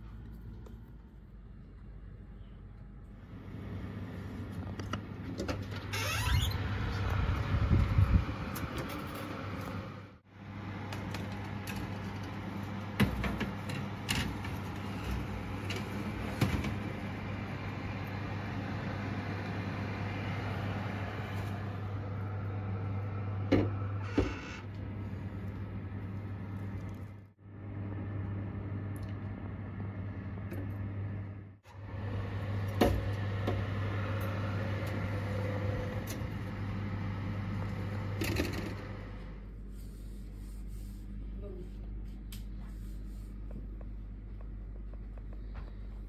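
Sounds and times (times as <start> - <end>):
fan oven humming: 0.0 - 46.0.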